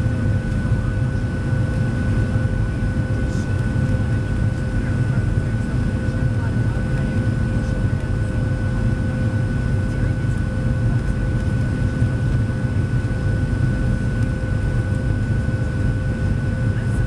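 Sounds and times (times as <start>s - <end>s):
jet engine low rumble: 0.0s - 17.0s.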